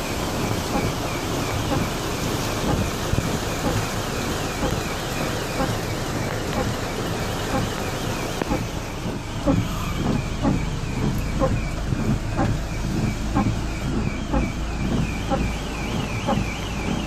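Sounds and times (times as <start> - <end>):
car alarm siren warbling: 0.0 - 17.0.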